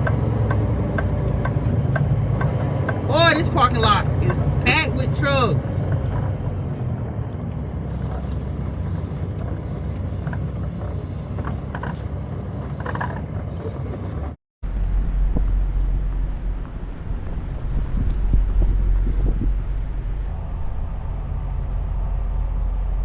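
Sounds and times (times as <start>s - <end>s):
truck engine low rumble: 0.0s - 23.0s.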